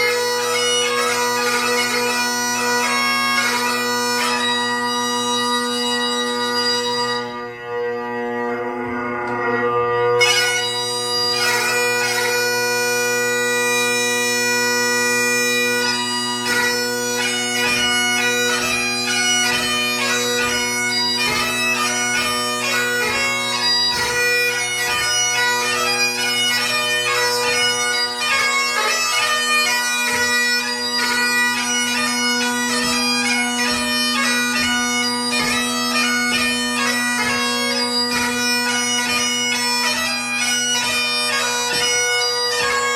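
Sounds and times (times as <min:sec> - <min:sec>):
bagpipe chanter melody: 0:00.0 - 0:42.9
bagpipe drones: 0:00.0 - 0:42.9.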